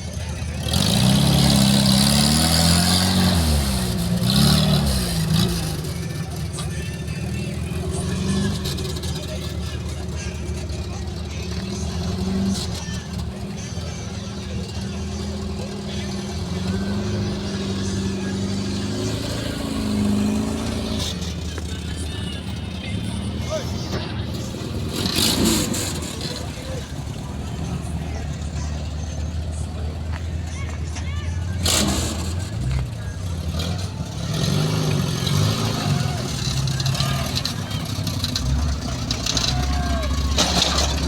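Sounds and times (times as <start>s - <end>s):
off-road vehicle engine revving: 0.0s - 41.0s.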